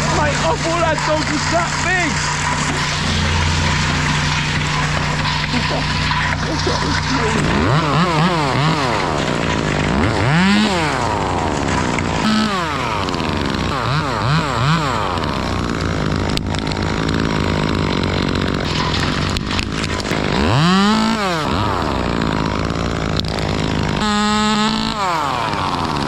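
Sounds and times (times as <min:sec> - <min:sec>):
chainsaw idling and revving: 0:00.0 - 0:26.0.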